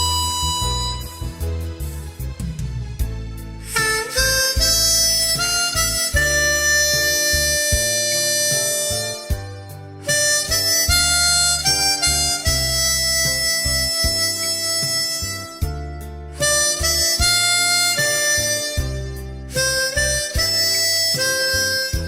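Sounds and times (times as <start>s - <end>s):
harmonica melody: 0.0s - 2.2s, 3.6s - 22.0s
backing track with bass line: 0.0s - 22.0s.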